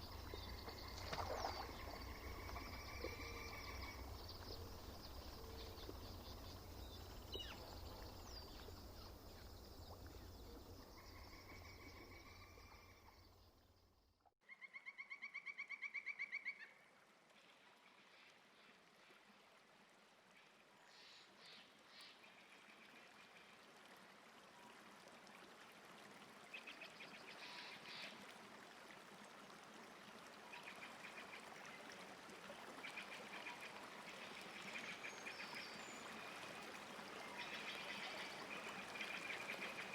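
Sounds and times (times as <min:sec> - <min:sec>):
soft hiss of water: 0:00.0 - 0:13.2, 0:17.1 - 0:39.9.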